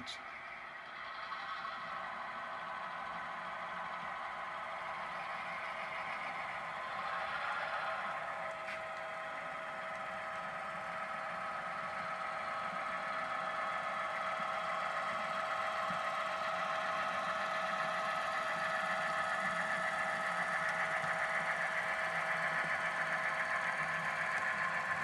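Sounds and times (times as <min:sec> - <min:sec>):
model diesel locomotive hum: 0:00.0 - 0:25.0.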